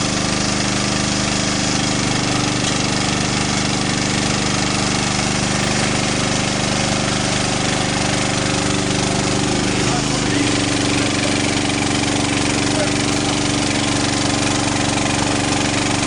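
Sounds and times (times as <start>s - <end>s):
engine-driven machinery pulsing: 0.0s - 16.0s.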